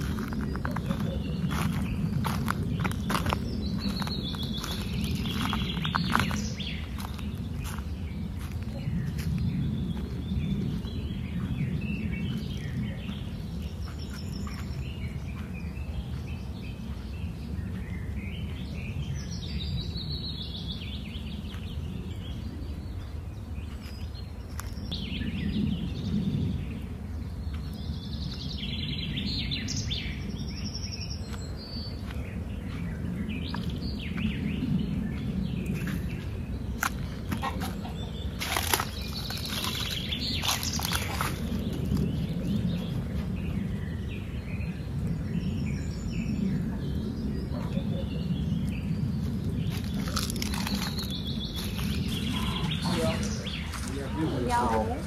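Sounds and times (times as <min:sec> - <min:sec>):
birds chirping: 0:00.0 - 0:55.0
low rumble: 0:00.0 - 0:55.0.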